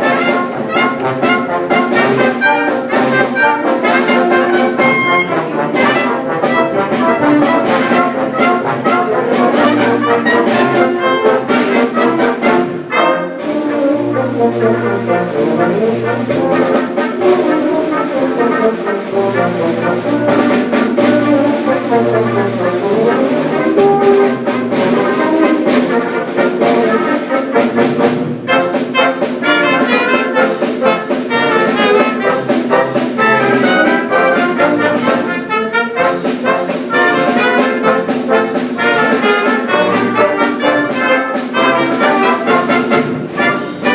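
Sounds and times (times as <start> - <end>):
brass band playing: 0.0 - 43.9
drum strokes: 0.0 - 43.9.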